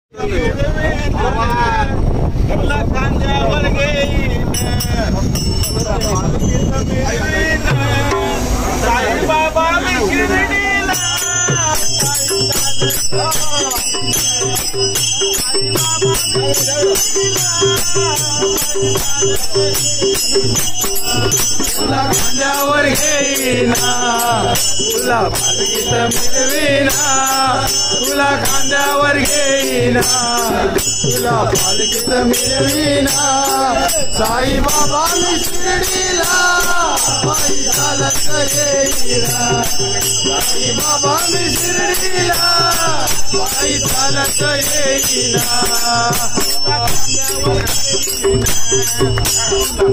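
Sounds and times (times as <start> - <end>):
men singing devotional song: 0.2 - 49.9
hand cymbals struck: 4.4 - 49.9.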